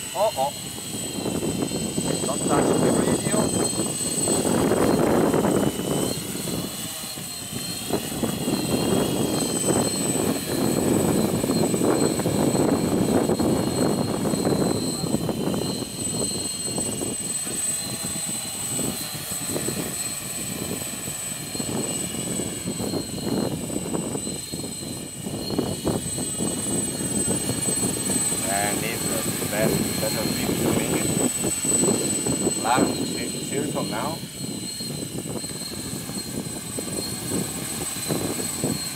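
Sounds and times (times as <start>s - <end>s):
drone propellers whining: 0.0s - 38.9s
wind buffeting microphone: 0.0s - 38.9s.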